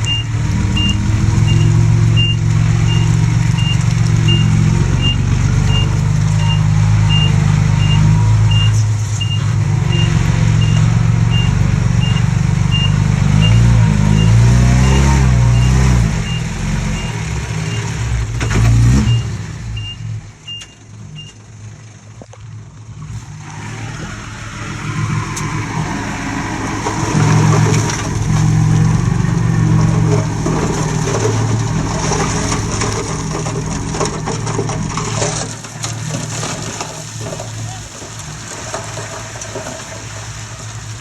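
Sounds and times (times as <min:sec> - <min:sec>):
clattering grinding noise: 0:00.0 - 0:19.1, 0:23.1 - 0:41.0
bulldozer diesel engine: 0:00.0 - 0:41.0.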